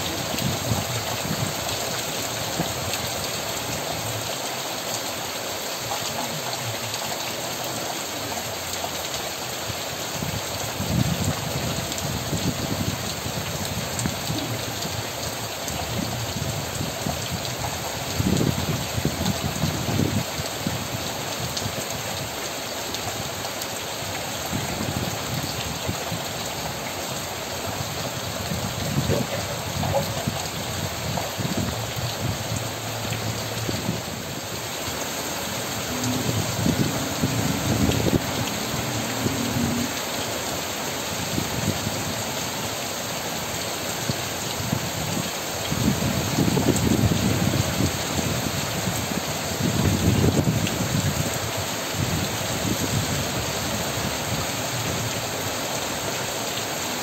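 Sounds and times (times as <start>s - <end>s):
steady rain on trees and roofs: 0.0s - 57.0s.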